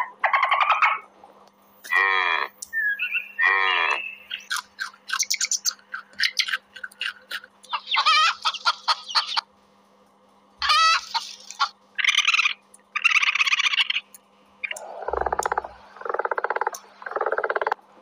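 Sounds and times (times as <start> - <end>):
animal calls and chirps: 0.0 - 1.1, 1.8 - 9.5, 10.6 - 17.8.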